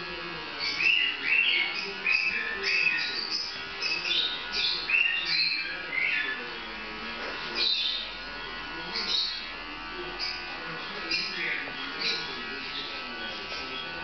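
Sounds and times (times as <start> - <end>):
electric clippers humming: 0.0 - 14.0.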